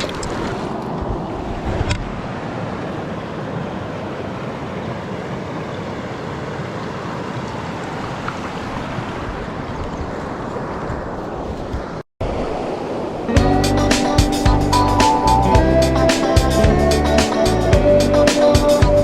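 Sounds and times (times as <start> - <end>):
stream water rushing: 0.0 - 18.6.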